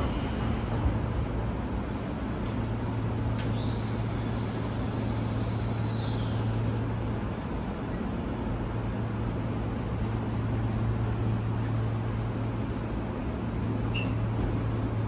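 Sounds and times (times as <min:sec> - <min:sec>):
train car equipment hum: 0:00.0 - 0:15.0.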